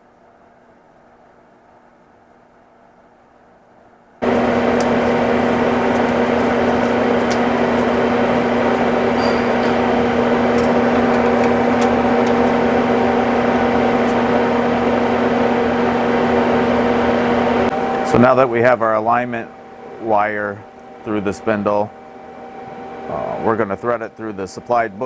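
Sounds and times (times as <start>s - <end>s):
machine hum with steady tones: 0.0s - 25.0s.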